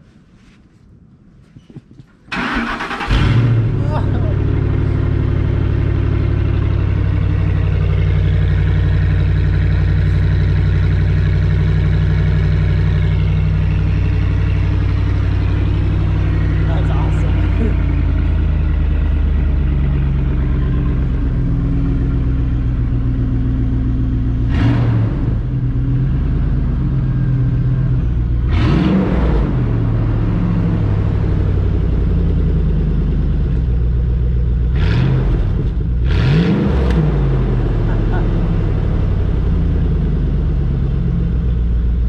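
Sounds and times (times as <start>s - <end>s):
open-exhaust engine idling and revving: 2.3s - 42.0s.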